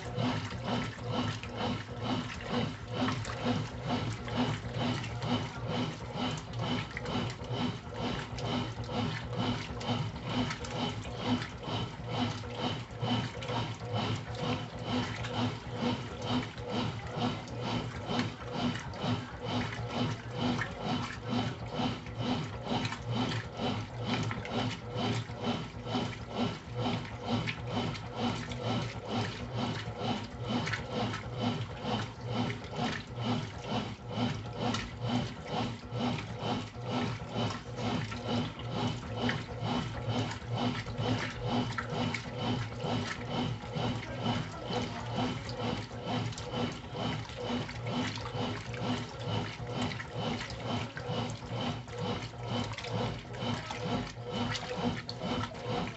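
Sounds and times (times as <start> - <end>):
washing machine motor hum: 0.0 - 55.9
washing machine water churning: 0.0 - 55.9.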